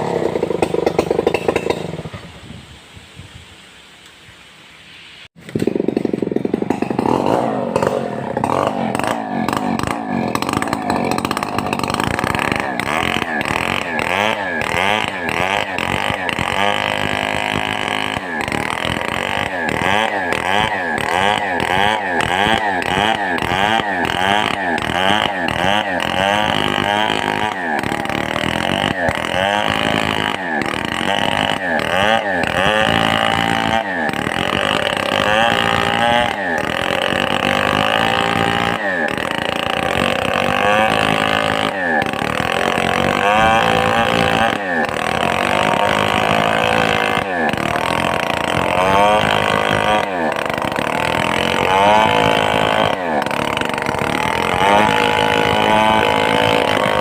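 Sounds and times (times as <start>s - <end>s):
chainsaw cutting wood: 0.0s - 2.3s, 5.4s - 57.0s.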